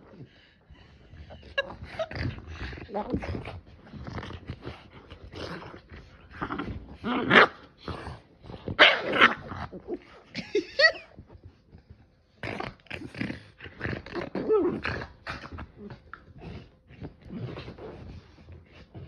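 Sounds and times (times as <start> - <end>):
dog play-growling and barking: 0.0 - 19.0.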